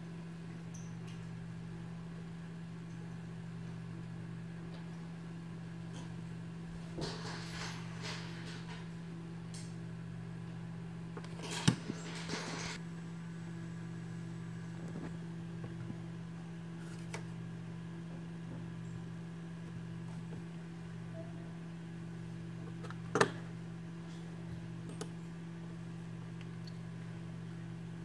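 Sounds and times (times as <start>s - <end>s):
computer fan hum: 0.0s - 28.0s.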